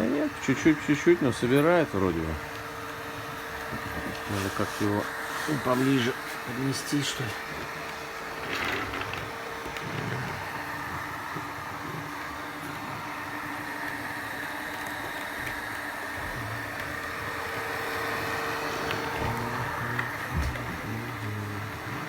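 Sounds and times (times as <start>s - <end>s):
robot vacuum running: 0.0s - 22.0s.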